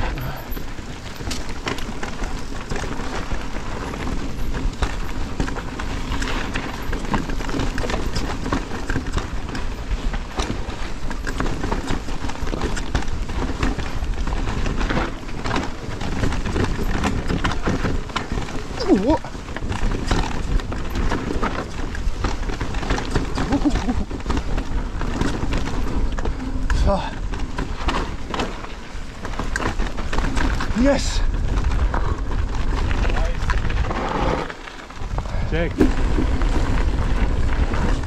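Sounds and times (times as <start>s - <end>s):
bike clicking and rattling: 0.0s - 38.0s
tyres crunching over stones: 0.0s - 38.0s.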